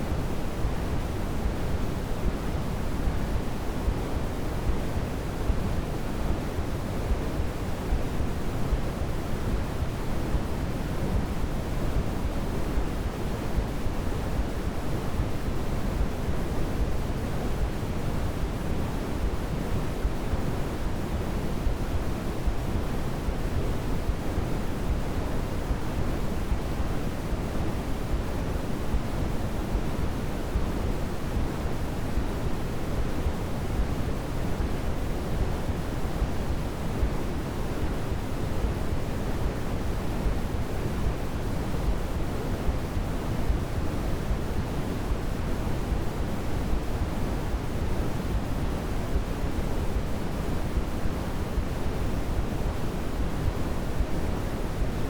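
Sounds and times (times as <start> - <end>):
low white noise hiss: 0.0 - 55.0.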